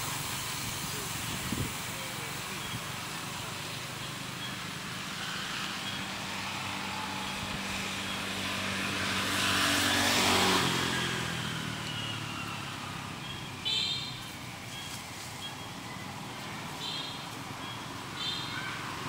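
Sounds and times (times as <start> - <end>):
passing vehicle hiss: 0.0 - 19.0
vehicle engine humming: 0.0 - 19.0.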